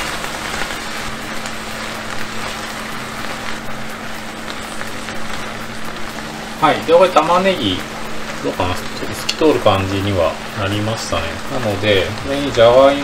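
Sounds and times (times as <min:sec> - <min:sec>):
steady low hum: 0:00.0 - 0:13.0
vegetables sizzling in oil: 0:00.0 - 0:13.0.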